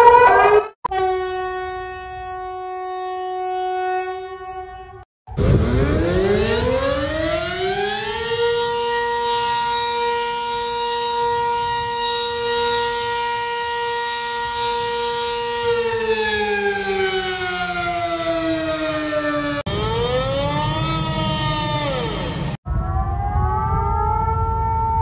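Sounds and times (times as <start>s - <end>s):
siren wailing: 0.0s - 25.0s.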